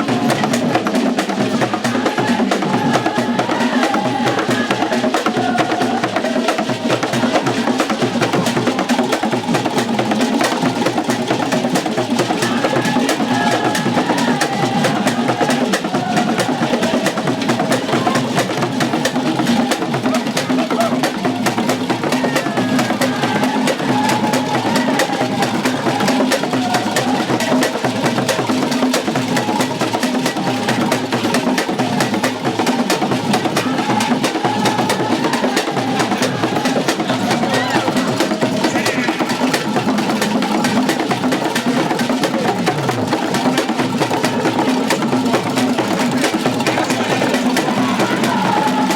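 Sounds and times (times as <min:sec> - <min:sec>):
percussion music with drums: 0:00.0 - 0:48.9
rapid clicking beat: 0:00.0 - 0:48.9.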